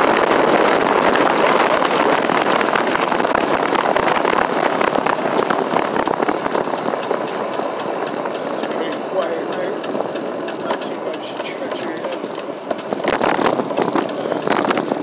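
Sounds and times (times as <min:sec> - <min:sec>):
bicycle ticking: 0:00.0 - 0:15.0
wind and tyre noise: 0:00.0 - 0:15.0.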